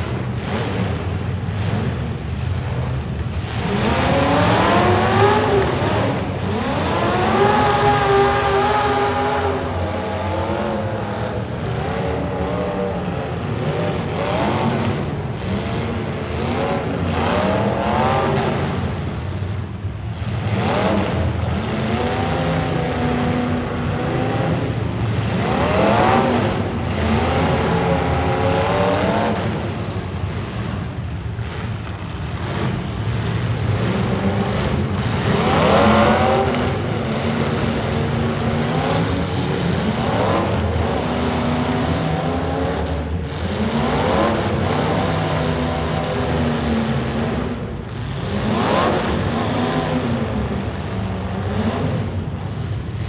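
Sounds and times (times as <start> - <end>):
car engines revving loudly: 0.0 - 53.0.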